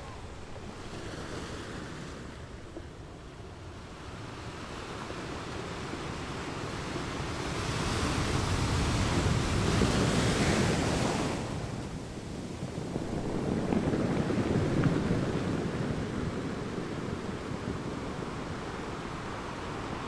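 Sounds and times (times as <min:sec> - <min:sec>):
waves washing: 0:00.0 - 0:20.0
wind buffeting microphone: 0:00.0 - 0:20.0.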